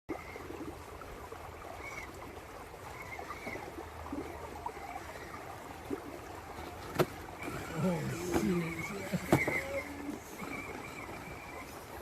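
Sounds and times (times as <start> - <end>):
creek water trickling: 0.1 - 12.0.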